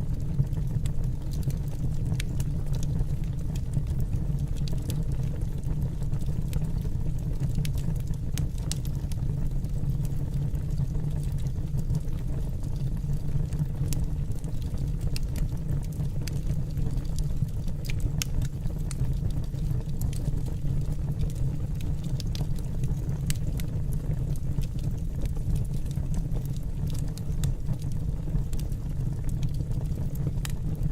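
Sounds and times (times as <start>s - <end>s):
low fire rumble: 0.0s - 30.9s
wood fire crackling and popping: 0.0s - 30.9s.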